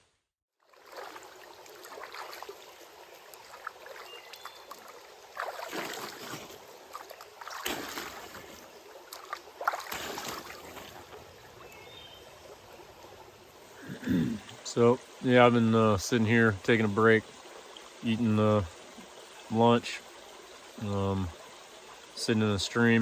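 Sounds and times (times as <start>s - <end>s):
stream water running over rocks: 0.6s - 23.0s.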